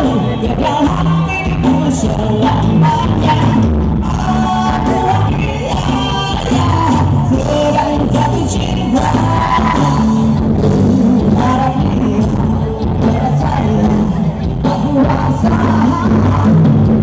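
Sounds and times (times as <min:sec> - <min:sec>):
bass line: 0:00.0 - 0:17.0
person singing: 0:00.0 - 0:17.0.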